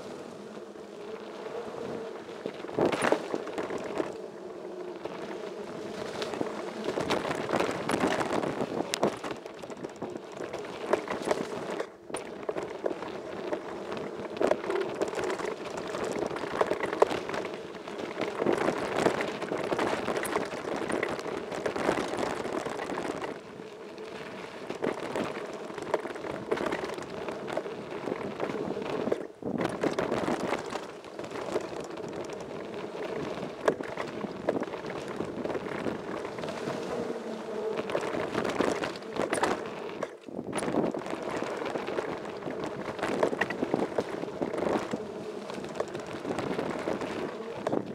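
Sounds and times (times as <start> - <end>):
bike rattling over bumps: 0.0 - 47.9
bike tyres on gravel: 0.0 - 47.9
wind on microphone: 0.0 - 47.9.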